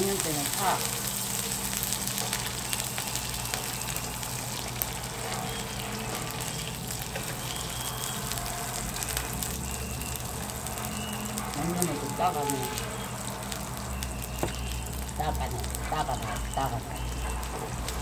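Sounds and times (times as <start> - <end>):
fat crackling and popping: 0.0 - 18.0
meat sizzling on a grill: 0.0 - 18.0.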